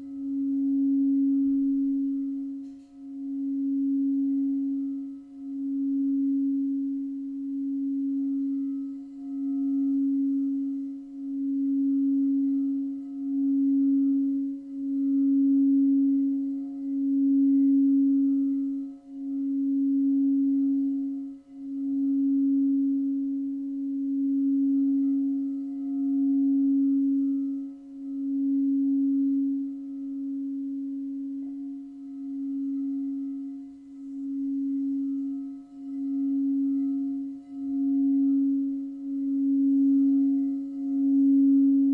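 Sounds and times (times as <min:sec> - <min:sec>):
singing bowl low tone: 0:00.0 - 0:41.9.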